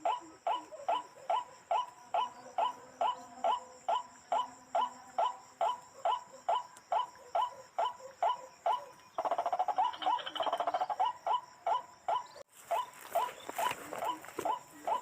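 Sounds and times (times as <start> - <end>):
bird harsh repeated call: 0.0 - 15.0.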